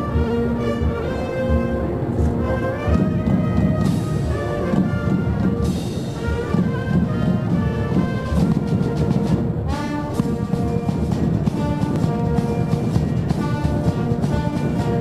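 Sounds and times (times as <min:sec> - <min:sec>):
regular drumbeat: 0:00.0 - 0:15.0
wind band playing brass music: 0:00.0 - 0:15.0.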